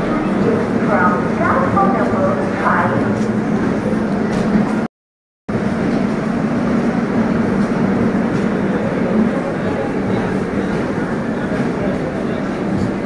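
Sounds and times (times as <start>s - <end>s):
train rumble: 0.0s - 4.9s, 5.5s - 13.0s.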